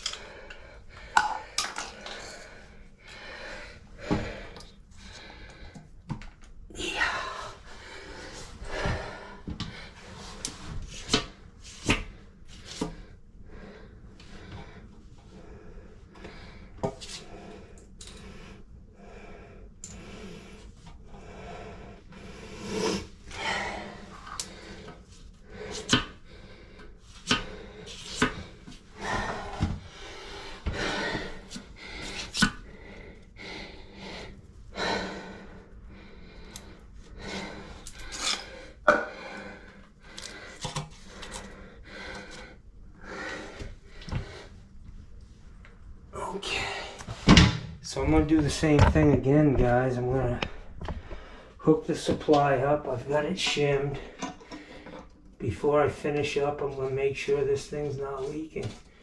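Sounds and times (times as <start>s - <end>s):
man breathing heavily: 0.0s - 6.1s, 6.7s - 44.8s, 46.2s - 48.8s, 49.6s - 55.2s.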